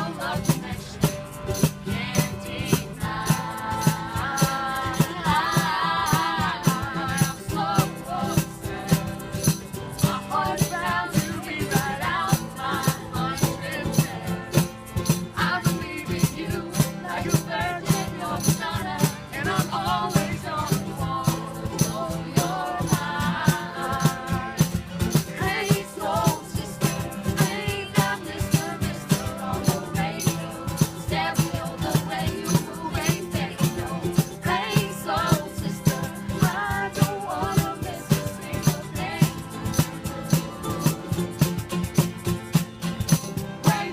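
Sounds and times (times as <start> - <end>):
quick percussion beat: 0.0 - 43.9.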